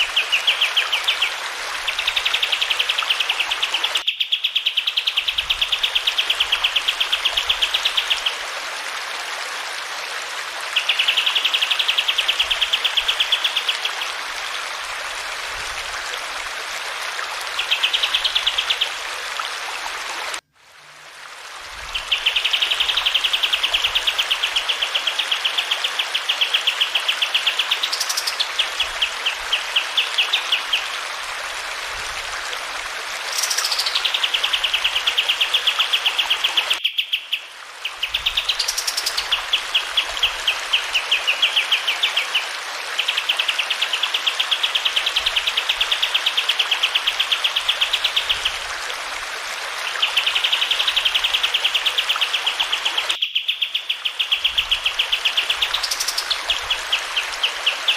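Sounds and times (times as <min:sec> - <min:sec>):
running water: 0:00.0 - 0:04.0, 0:04.8 - 0:57.9.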